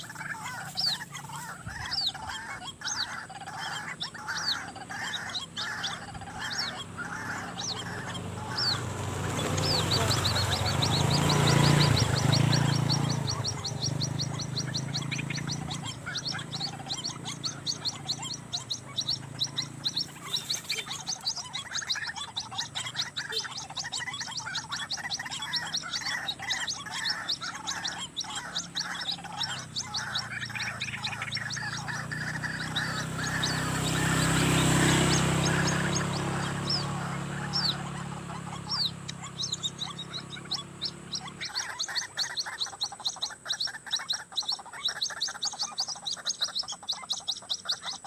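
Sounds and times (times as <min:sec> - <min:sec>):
high-pitched chirping: 0:00.0 - 0:48.0
waterhen croaking calls: 0:00.0 - 0:48.0.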